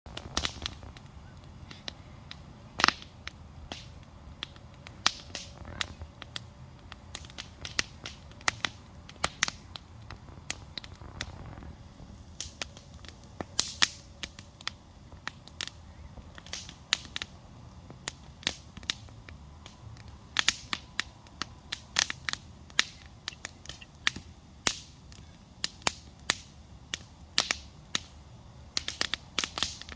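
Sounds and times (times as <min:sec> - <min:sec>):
faint low rumble: 0:00.1 - 0:25.4
campfire crackling: 0:00.1 - 0:29.9.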